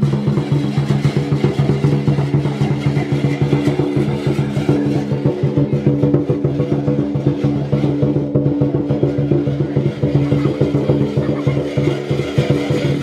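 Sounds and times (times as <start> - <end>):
drum beaten fast: 0.0 - 13.0.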